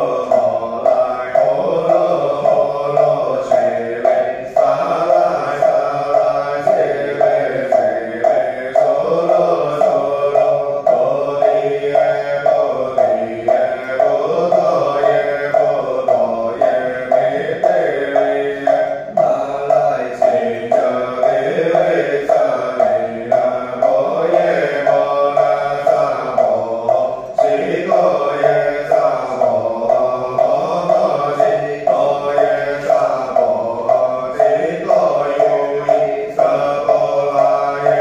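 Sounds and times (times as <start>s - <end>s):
liturgical chanting: 0.0s - 38.0s
wooden fish drum beat: 0.0s - 38.0s.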